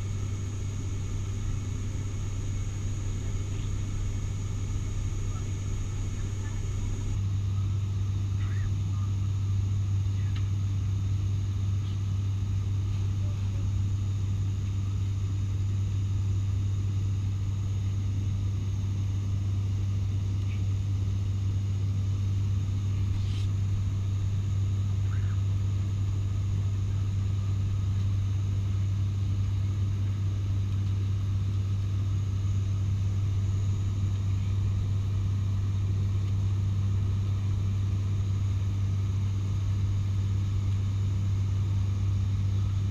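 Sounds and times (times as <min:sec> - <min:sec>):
propeller plane cabin drone: 0:00.0 - 0:42.9.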